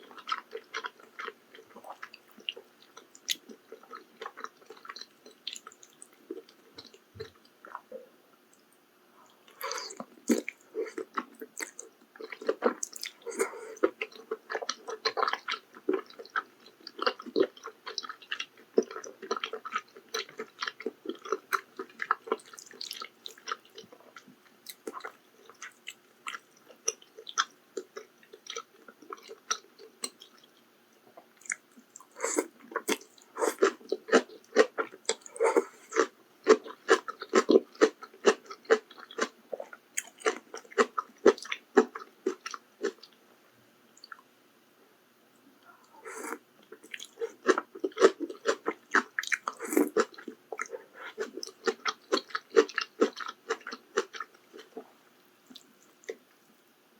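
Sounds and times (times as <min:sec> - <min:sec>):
close-miked chewing: 0:00.0 - 0:43.2, 0:45.6 - 0:56.6.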